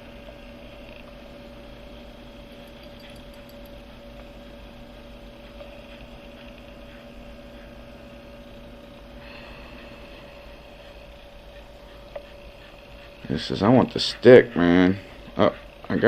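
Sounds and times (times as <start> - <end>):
steady two-tone hum: 0.0 - 16.0.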